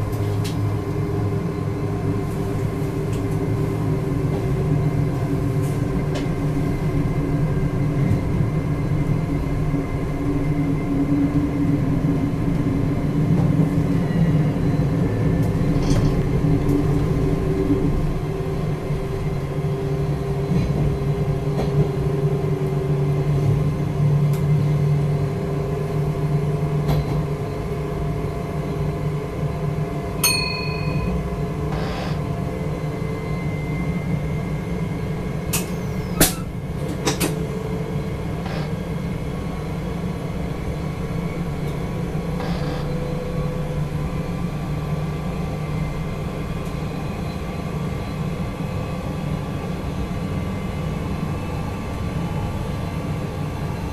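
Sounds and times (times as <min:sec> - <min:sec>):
train rumbling: 0:00.0 - 0:53.9.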